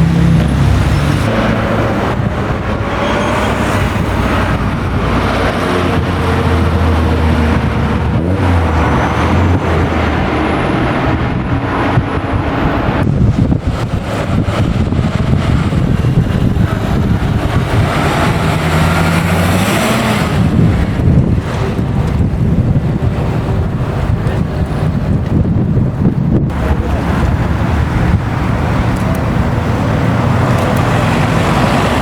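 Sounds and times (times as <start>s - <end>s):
car engines running: 0.0s - 32.0s.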